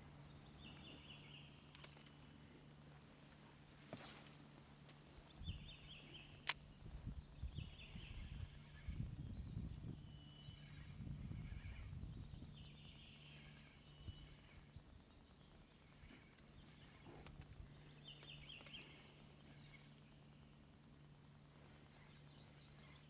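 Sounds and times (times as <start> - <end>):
faint birdsong chirps: 0.0 - 23.0
low steady hum: 0.0 - 23.0.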